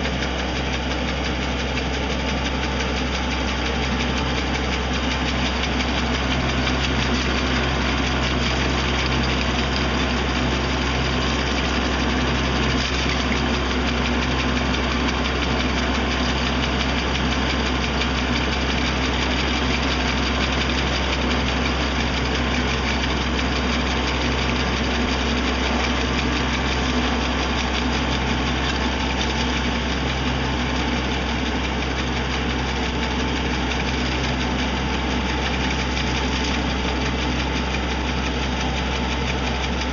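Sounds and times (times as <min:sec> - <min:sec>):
machine engine humming: 0:00.0 - 0:39.9.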